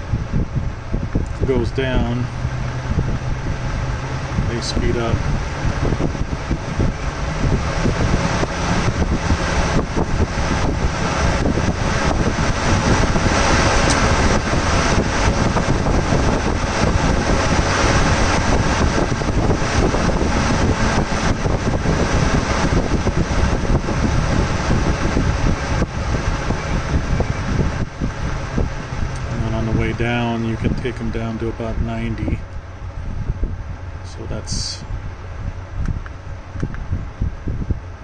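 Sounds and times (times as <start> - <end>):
cooling fans rushing air: 0.0 - 38.0.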